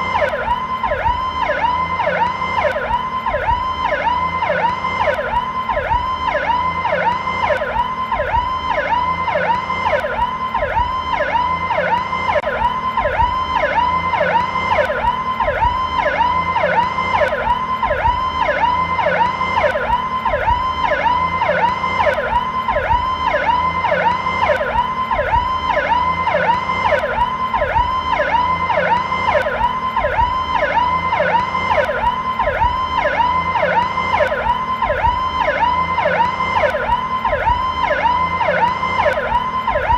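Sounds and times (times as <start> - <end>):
police siren sweeping up and down: 0.0 - 39.9.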